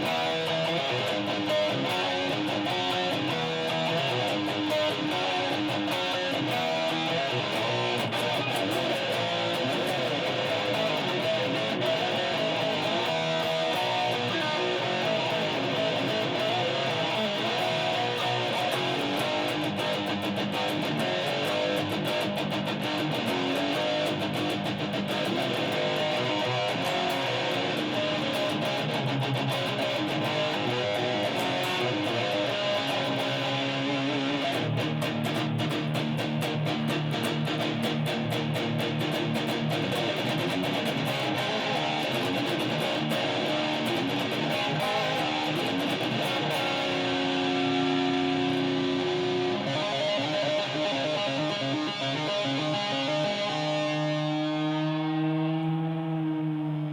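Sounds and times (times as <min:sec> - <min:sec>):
heavy metal guitar riffs: 0:00.0 - 0:56.9.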